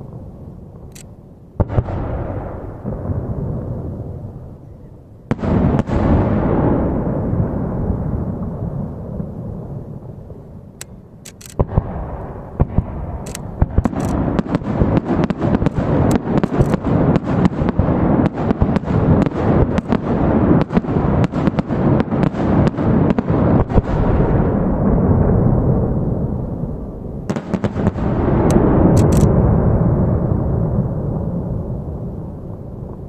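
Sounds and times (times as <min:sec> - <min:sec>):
fireworks rumble: 0:00.0 - 0:33.0
fireworks bangs: 0:01.5 - 0:04.6, 0:05.3 - 0:10.5, 0:11.3 - 0:33.0.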